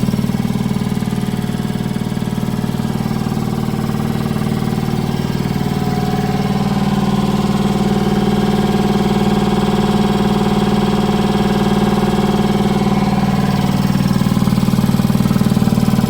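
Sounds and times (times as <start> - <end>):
air compressor pulsing: 0.0 - 16.0.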